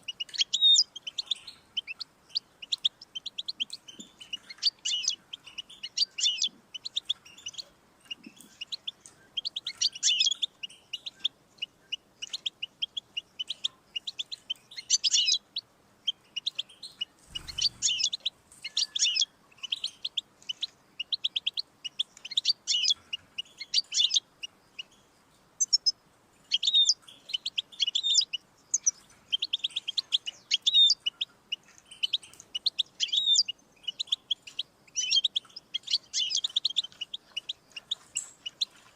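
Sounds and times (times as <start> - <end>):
finch twittering song: 0.0 - 38.9.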